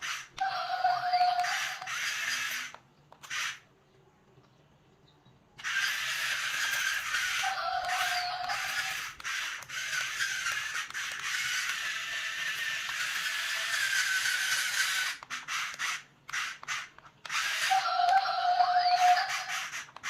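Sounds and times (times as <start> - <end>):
toy excavator motors whining: 0.0 - 3.7, 5.6 - 20.0.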